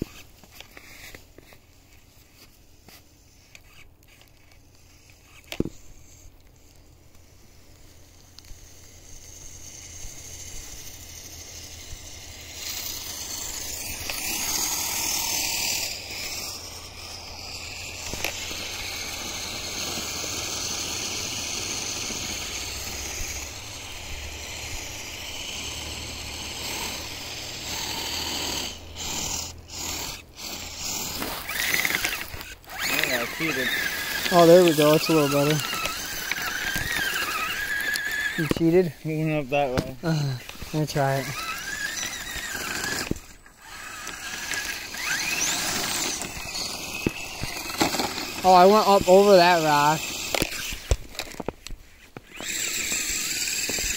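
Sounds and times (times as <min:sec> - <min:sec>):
toy truck motor whirring: 0:00.0 - 0:53.9.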